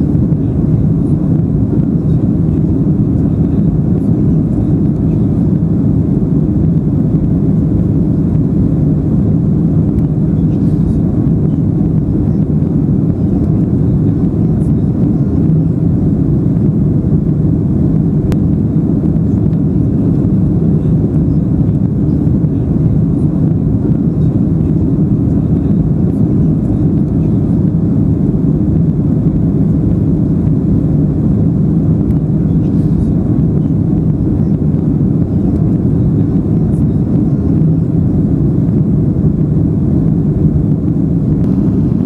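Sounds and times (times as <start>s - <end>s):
airplane engines droning in cabin: 0.0s - 42.0s.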